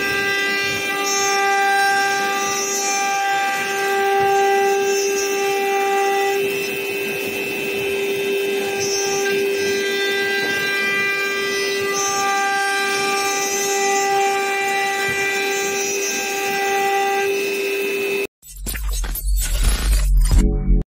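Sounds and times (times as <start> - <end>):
router spindle whine: 0.0 - 18.3.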